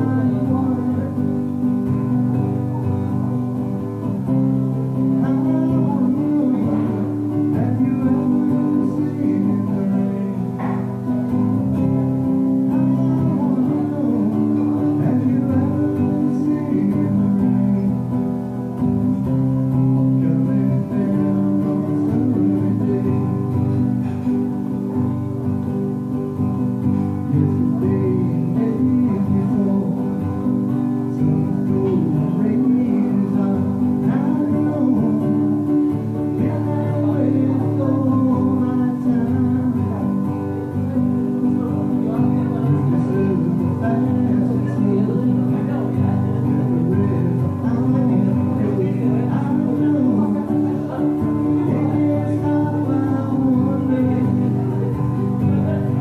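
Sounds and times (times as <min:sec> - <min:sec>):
man singing: 0:00.0 - 0:56.0
strummed acoustic guitar: 0:00.0 - 0:56.0.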